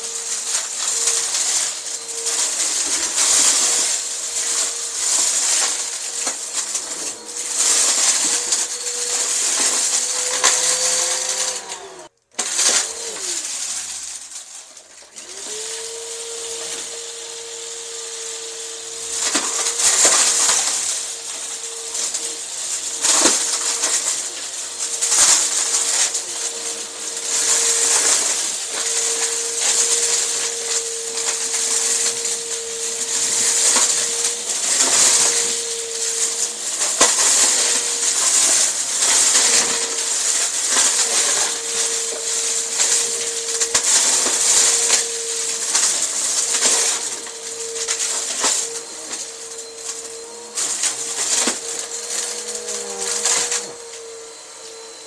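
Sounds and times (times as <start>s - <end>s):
debris rattling through vacuum: 0.0s - 55.0s
vacuum cleaner running: 0.0s - 55.0s.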